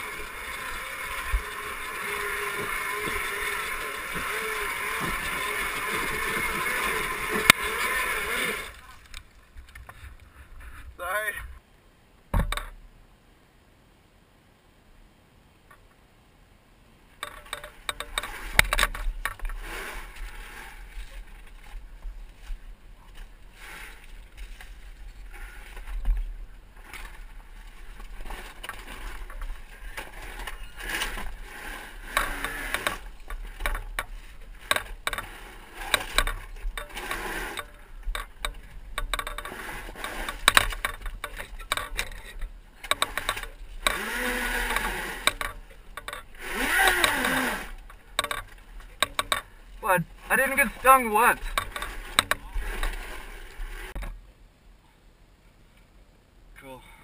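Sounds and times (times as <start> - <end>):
bike clattering on rocks: 0.0 - 10.1, 17.2 - 54.2.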